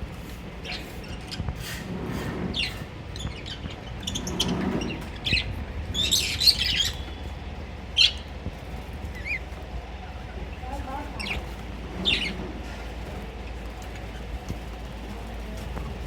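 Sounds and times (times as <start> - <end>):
lovebirds chirping and squawking: 0.6 - 14.4.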